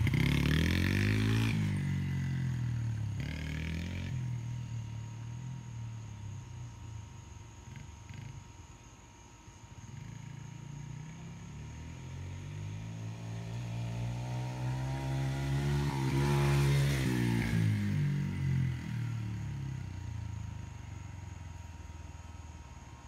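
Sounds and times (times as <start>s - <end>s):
dirt bike engine passing: 0.0s - 6.8s, 9.8s - 21.5s.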